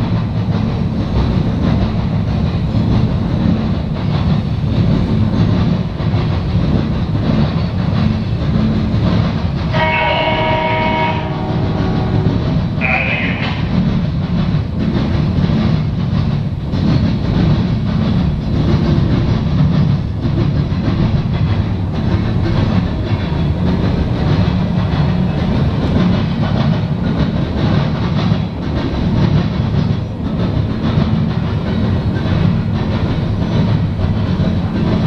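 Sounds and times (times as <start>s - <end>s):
freight train wheels rumbling on rail: 0.0s - 35.0s.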